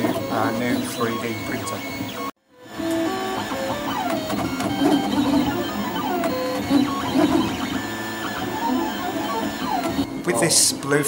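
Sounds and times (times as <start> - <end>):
printer stepper motors whining: 0.0 - 11.0.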